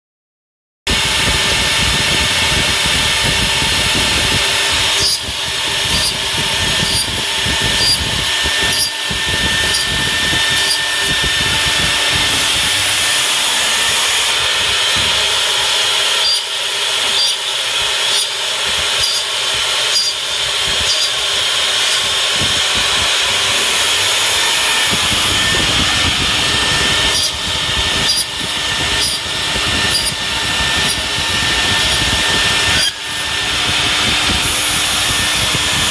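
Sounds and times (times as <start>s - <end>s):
router spindle cutting wood: 0.9s - 35.9s.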